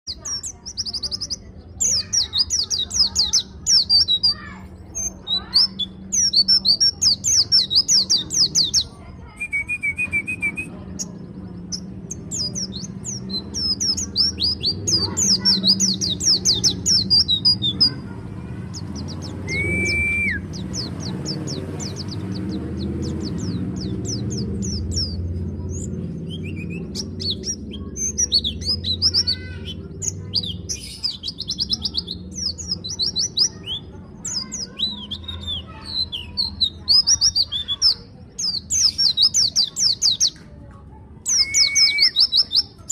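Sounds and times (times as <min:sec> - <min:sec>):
bird rapid high chirping: 0:00.0 - 0:40.4, 0:41.2 - 0:42.9.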